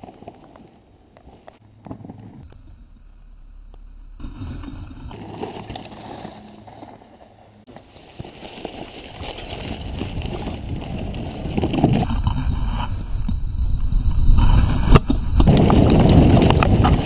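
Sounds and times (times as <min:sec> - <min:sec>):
bike rattling: 0:00.0 - 0:03.3, 0:04.2 - 0:13.3, 0:14.1 - 0:17.0
bike tyres on dirt trail: 0:00.0 - 0:17.0.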